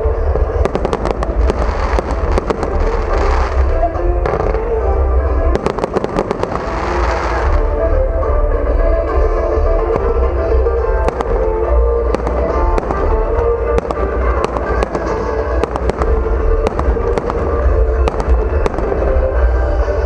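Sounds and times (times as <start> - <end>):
fireworks bangs and crackles: 0.0 - 7.8, 9.8 - 20.0
deep rumble: 0.0 - 20.0
loud music: 0.0 - 20.0.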